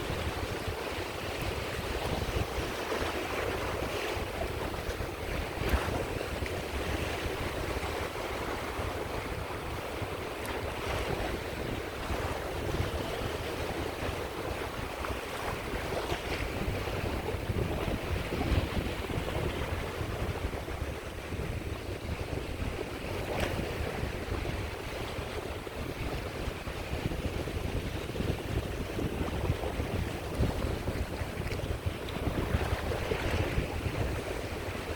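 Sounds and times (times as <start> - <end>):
small waves washing onto shore: 0.0 - 34.9
wind buffeting microphone: 0.0 - 34.9.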